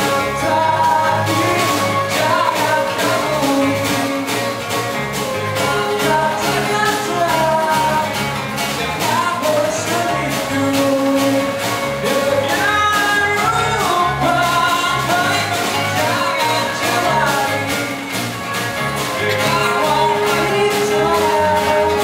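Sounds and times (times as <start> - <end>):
man singing: 0.0 - 4.7, 5.4 - 22.0
live band playing: 0.0 - 22.0.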